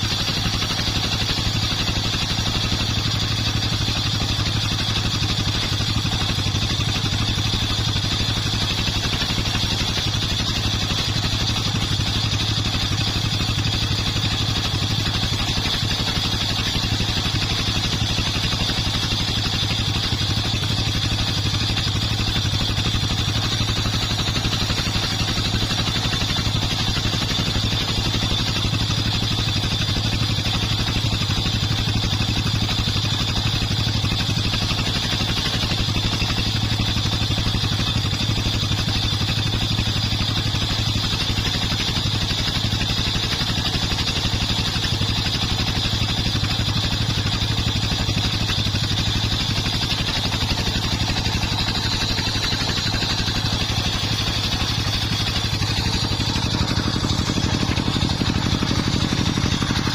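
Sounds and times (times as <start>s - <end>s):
sawmill engine drone with whine: 0.0s - 59.9s.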